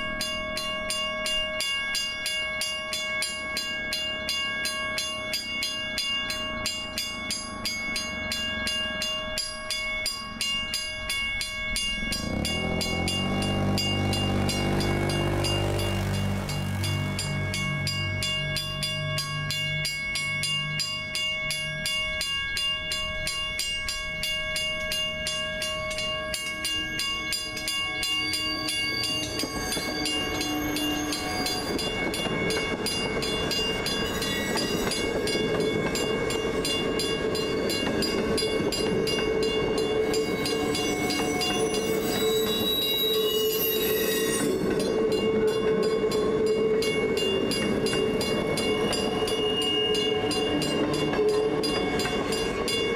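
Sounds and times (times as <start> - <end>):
electric train running past: 0.0 - 52.9.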